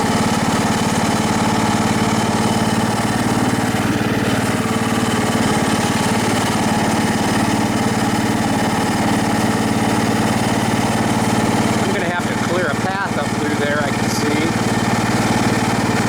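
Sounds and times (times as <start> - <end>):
small mower engine running: 0.0 - 16.0.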